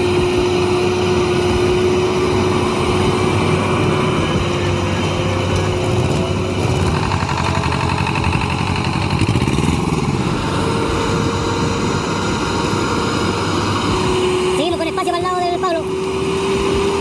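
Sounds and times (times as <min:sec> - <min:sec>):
truck diesel engine under load: 0:00.0 - 0:17.0.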